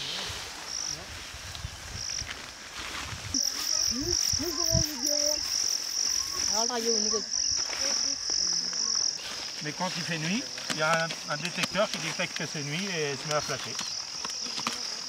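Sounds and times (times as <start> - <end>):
cricket chirping: 0.0 - 1.0, 1.6 - 2.5, 3.3 - 15.0.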